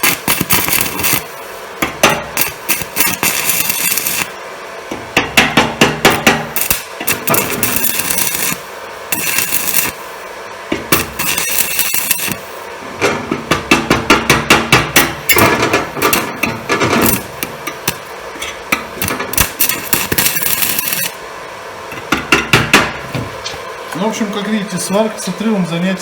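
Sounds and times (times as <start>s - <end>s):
welding arc crackling: 0.0s - 25.5s.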